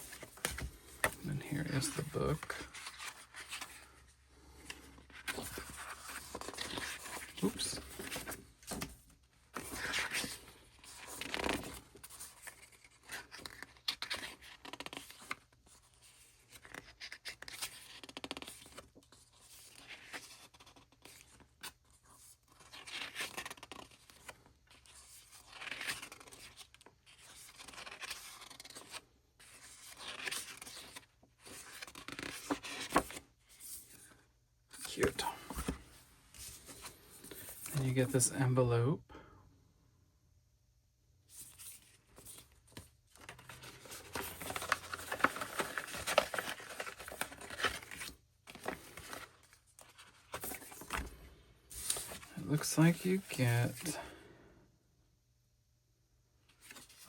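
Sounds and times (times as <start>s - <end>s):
paper and card rustling: 0.0s - 38.2s, 41.3s - 54.1s, 56.5s - 57.0s.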